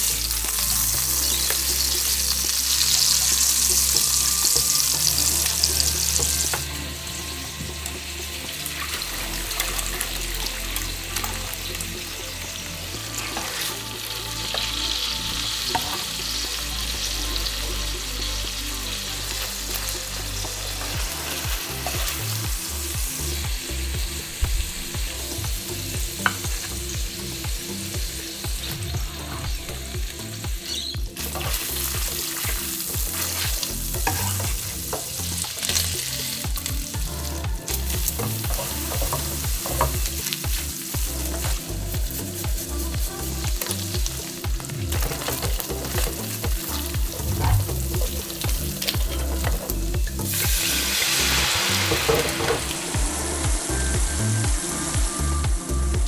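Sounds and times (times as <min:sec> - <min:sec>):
meat frying in a pan: 0:00.0 - 0:56.0.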